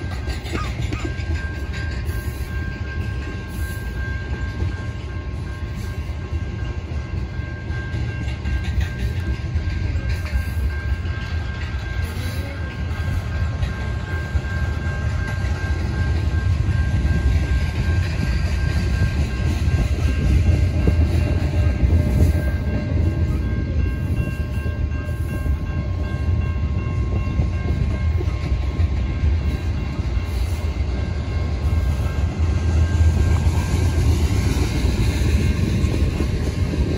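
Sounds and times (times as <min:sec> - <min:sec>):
steel wheels rumbling on rails: 0:00.0 - 0:36.9.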